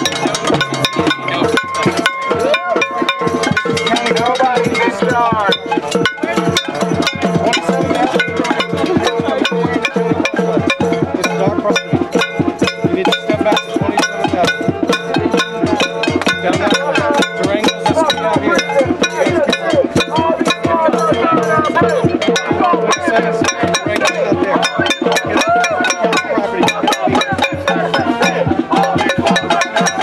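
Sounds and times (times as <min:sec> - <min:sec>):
crowd shouting: 0:00.0 - 0:30.0
hand-struck percussion beat: 0:00.0 - 0:30.0
steady held tone: 0:00.0 - 0:30.0.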